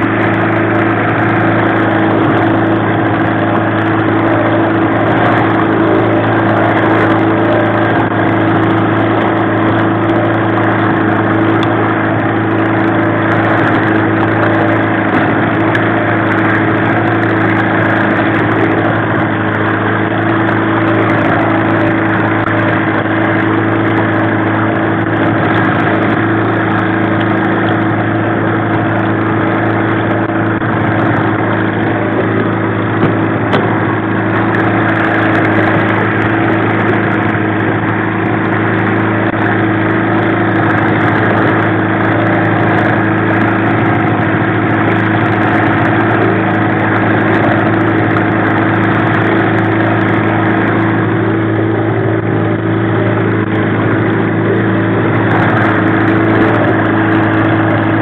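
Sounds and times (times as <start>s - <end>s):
outboard motor droning: 0.0s - 58.0s.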